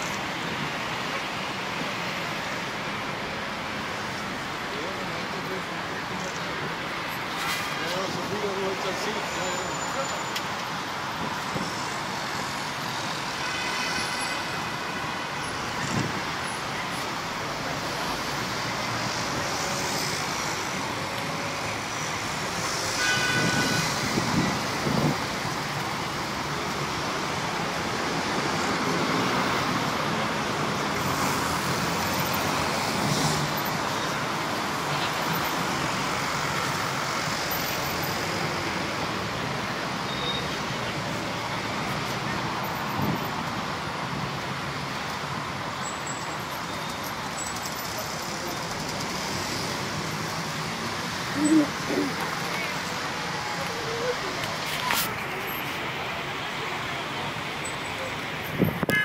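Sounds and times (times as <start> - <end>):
road traffic noise: 0.0 - 59.0.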